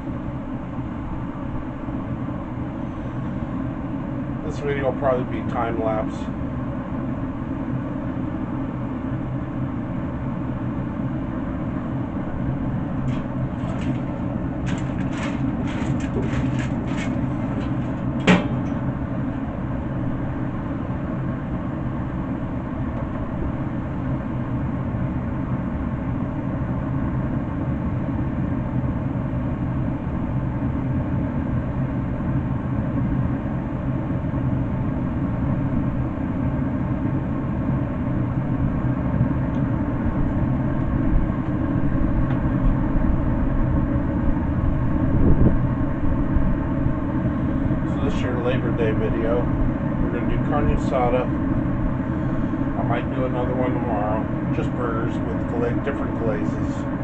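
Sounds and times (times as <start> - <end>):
fan humming: 0.0 - 57.0.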